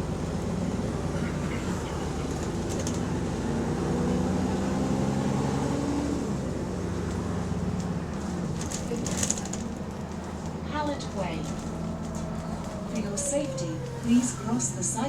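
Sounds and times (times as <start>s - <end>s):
bus engine running: 0.0s - 15.0s.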